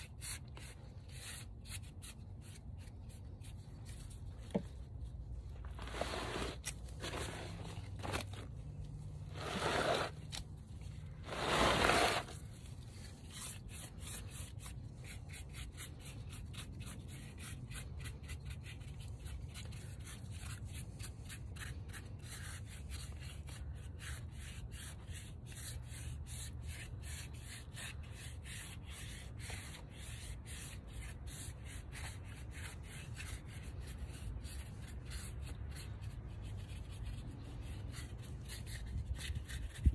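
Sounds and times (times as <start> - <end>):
paintbrush scrubbing concrete: 0.0 - 39.9.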